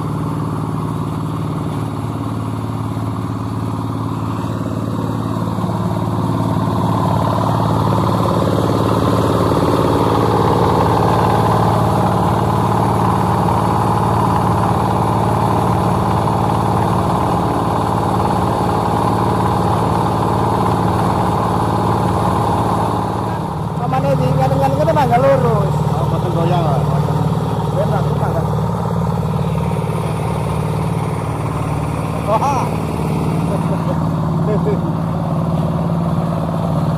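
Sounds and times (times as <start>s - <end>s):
concrete mixer engine running: 0.0s - 36.9s.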